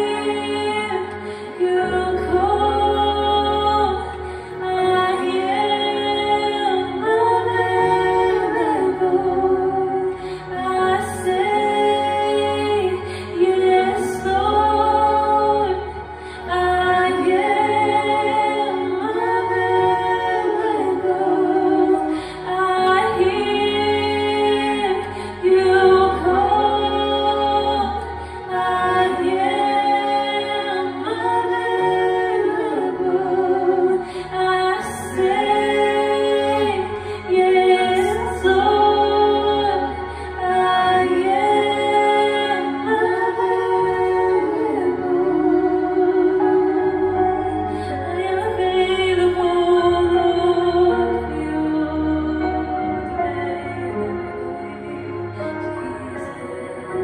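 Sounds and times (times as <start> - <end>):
woman singing: 0.0 - 57.0.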